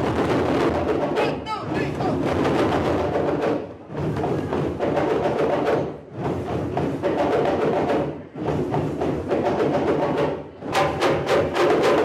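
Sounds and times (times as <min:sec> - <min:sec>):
djembe hand drumming: 0:00.0 - 0:12.0.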